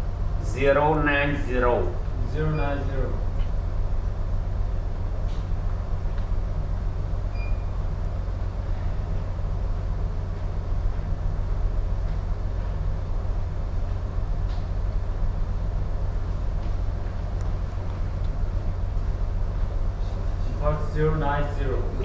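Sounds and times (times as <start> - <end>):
ship engine rumble: 0.0 - 22.0.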